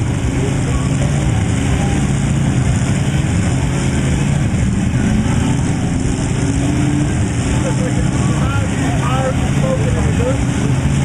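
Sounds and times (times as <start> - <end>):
truck engines running: 0.0 - 11.0.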